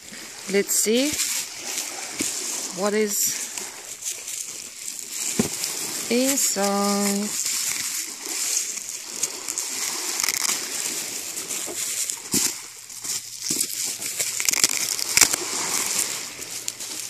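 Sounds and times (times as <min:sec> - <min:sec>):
bubble wrap crinkling: 0:03.3 - 0:17.0.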